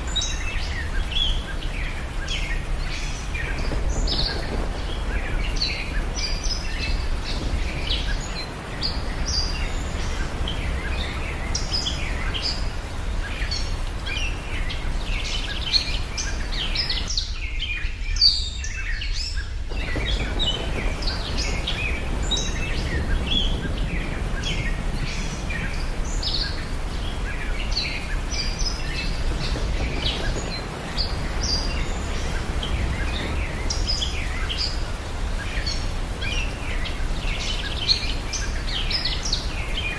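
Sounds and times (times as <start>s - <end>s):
birds chirping and calling: 0.0s - 39.9s
steady low background noise: 0.0s - 39.9s.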